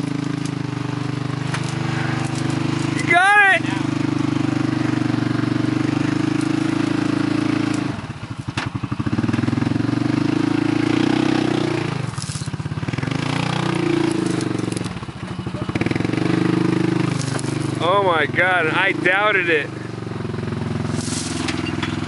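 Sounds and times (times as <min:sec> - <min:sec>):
engine working hard under load: 0:00.0 - 0:22.0.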